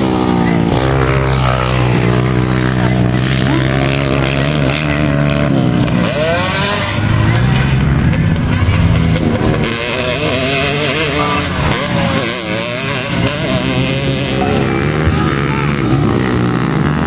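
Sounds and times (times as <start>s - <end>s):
dirt bike engines running: 0.0s - 17.0s.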